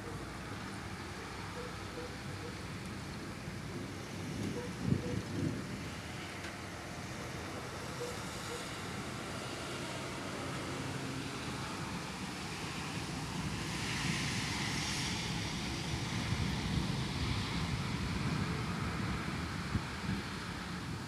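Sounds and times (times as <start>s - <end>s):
rain: 0.0s - 21.0s.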